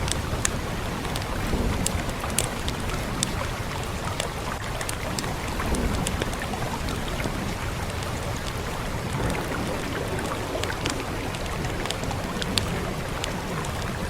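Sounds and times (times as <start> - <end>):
fire crackling and popping: 0.0 - 14.0
rain rushing: 0.0 - 14.0.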